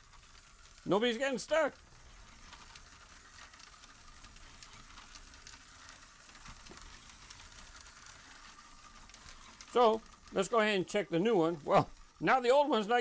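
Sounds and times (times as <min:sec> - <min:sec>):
toy truck motors hissing: 0:00.0 - 0:13.0.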